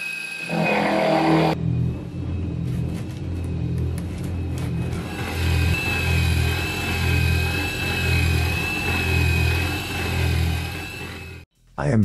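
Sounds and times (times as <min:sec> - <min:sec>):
spindle high whine: 0:00.0 - 0:11.5
low machine hum: 0:01.6 - 0:11.4.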